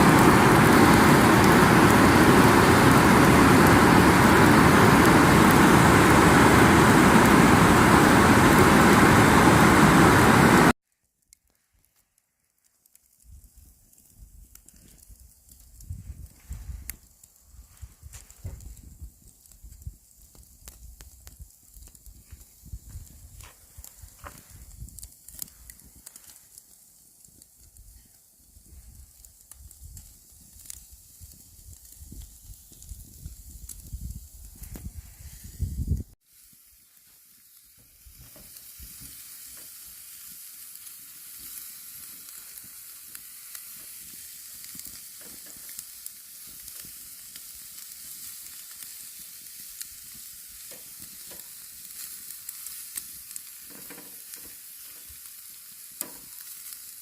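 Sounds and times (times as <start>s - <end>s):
meat sizzling on a grill: 0.0s - 10.8s, 12.9s - 57.0s.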